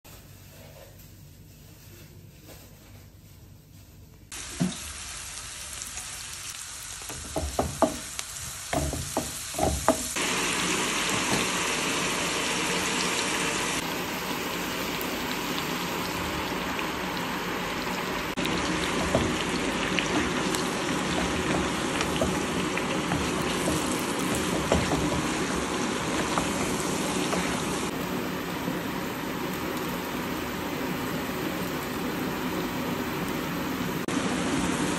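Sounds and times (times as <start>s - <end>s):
meat and onions sizzling in oil: 4.3s - 34.9s.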